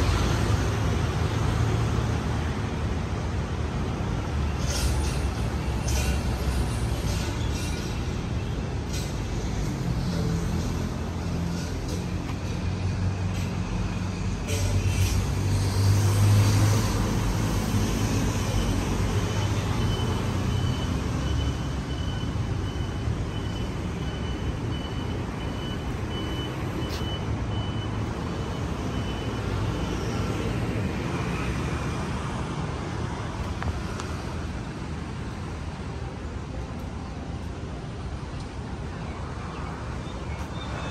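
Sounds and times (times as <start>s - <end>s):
vehicle engine rumbling: 0.0s - 39.3s
hum of passing traffic: 0.0s - 40.9s.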